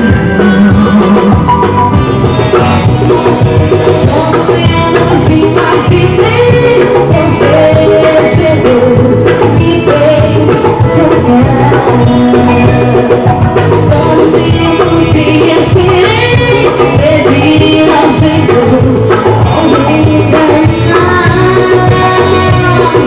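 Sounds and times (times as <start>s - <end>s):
woman singing into a microphone: 0.0s - 2.0s, 2.8s - 23.0s
live band playing: 0.0s - 23.0s.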